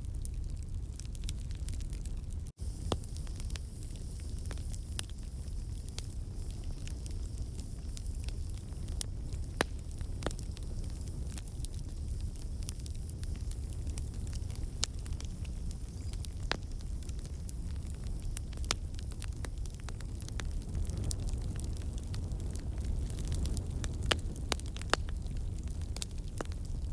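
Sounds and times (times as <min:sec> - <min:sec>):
campfire low rumble: 0:00.0 - 0:26.9
logs crackling and popping: 0:00.0 - 0:26.9.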